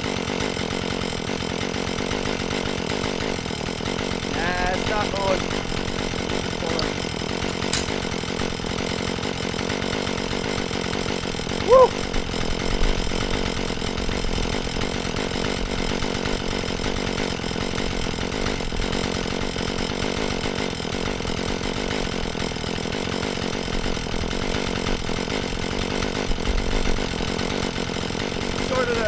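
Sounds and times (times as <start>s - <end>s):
chainsaw running steadily: 0.0s - 29.0s.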